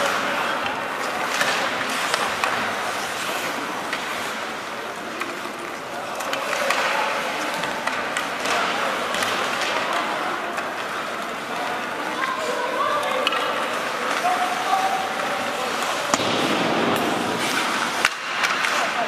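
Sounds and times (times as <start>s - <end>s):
sticks clicking against puck: 0.0s - 16.3s, 17.0s - 19.0s
skate blades scraping ice: 0.0s - 19.0s
voices in rink: 0.0s - 19.0s.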